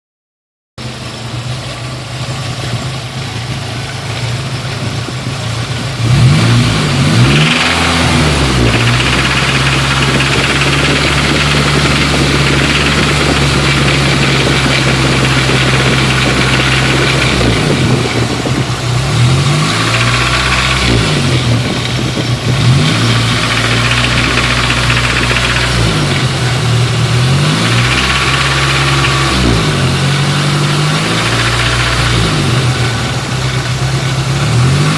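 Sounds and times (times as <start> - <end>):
car engine idling and revving: 0.8 - 34.9
engine rattle: 0.8 - 34.9.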